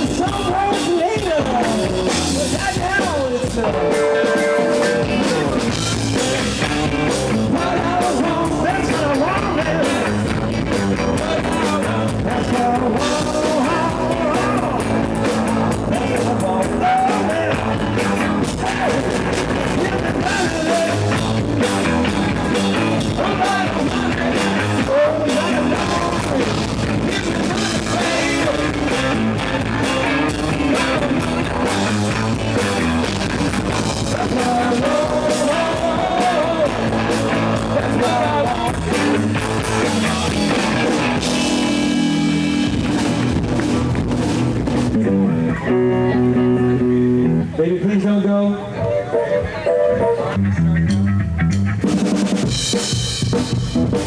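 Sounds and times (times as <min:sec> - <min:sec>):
electric guitar lead lines: 0:00.0 - 0:54.0
rock band playing live: 0:00.0 - 0:54.0.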